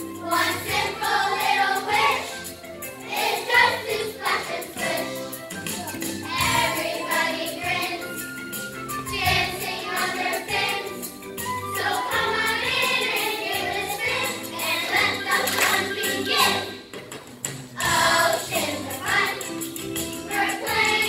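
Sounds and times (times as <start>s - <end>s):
children's choir singing: 0.0s - 5.4s, 6.0s - 8.4s, 9.0s - 16.9s, 17.8s - 21.0s
instrumental music: 0.0s - 21.0s.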